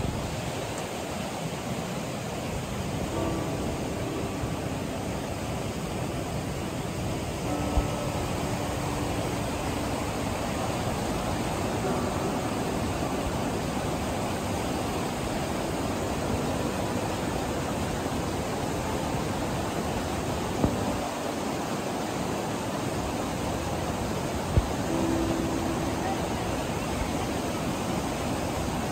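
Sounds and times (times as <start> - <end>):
stream rushing over boulders: 0.0 - 28.9.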